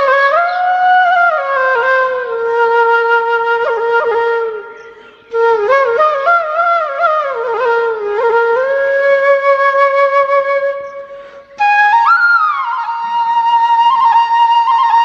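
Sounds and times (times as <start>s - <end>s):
solo flute slow melody: 0.0s - 15.0s.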